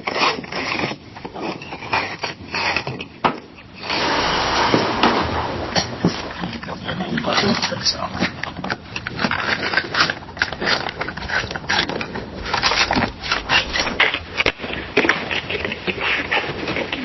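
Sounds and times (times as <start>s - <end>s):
rustling and scraping: 0.0s - 17.0s.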